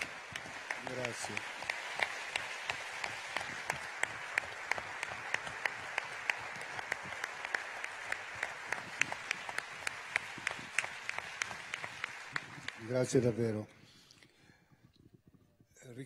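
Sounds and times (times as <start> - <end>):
large audience applauding: 0.0 - 13.6.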